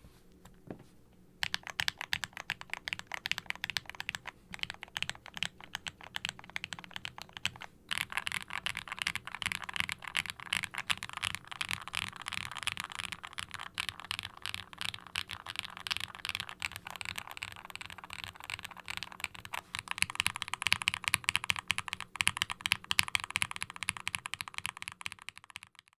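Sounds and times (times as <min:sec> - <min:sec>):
fast typing on mechanical keyboard: 0:01.4 - 0:26.0.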